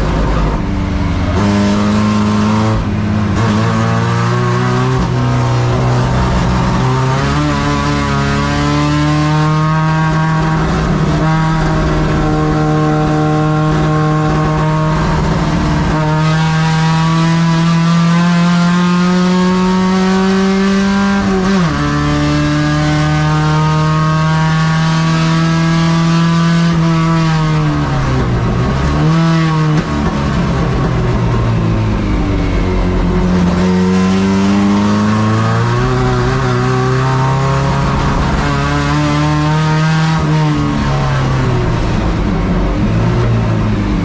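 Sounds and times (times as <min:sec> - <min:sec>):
race car engine at high revs: 0:00.0 - 0:44.0.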